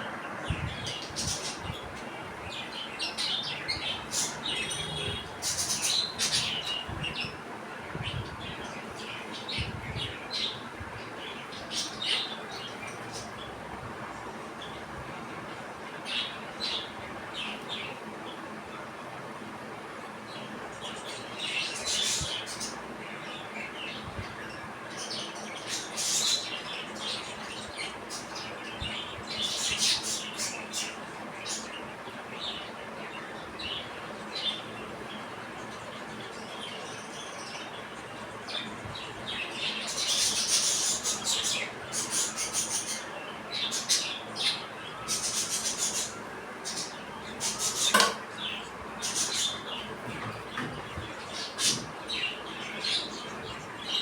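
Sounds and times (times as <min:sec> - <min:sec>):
budgies chirping and chattering: 0:00.5 - 0:13.5, 0:20.4 - 0:54.0.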